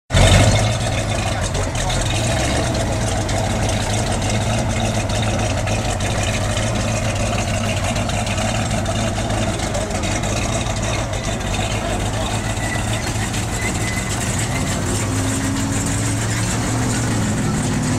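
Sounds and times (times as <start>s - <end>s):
car engine idling: 0.1s - 17.9s.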